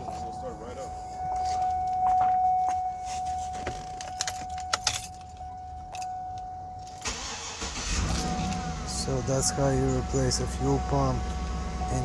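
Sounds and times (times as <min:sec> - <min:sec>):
steady high-pitched tone: 0:00.0 - 0:07.1, 0:08.0 - 0:12.0
car keys jangling: 0:00.0 - 0:12.0.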